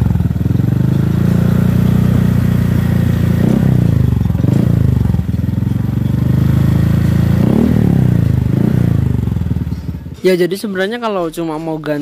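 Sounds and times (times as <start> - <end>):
scooter idling: 0.0 - 10.2.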